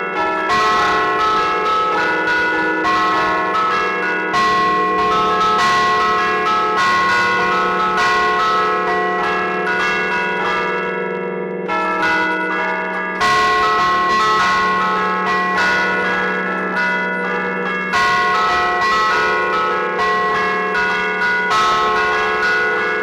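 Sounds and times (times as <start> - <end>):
church bells playing festive tune: 0.0 - 23.0.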